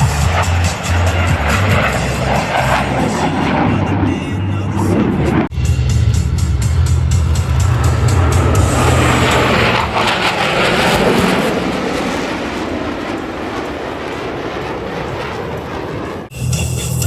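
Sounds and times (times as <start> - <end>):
jet noise in flight: 0.0 - 17.0.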